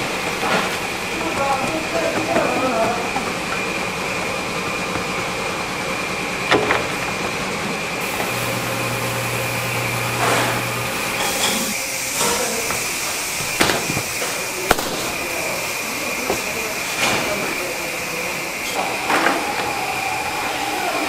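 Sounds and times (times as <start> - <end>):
factory machinery droning: 0.0 - 21.0.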